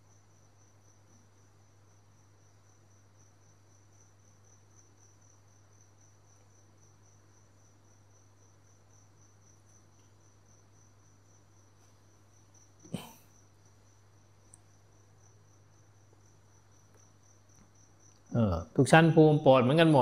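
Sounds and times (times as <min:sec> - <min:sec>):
cricket chirping: 0:00.0 - 0:20.0
low electrical hum: 0:00.0 - 0:20.0.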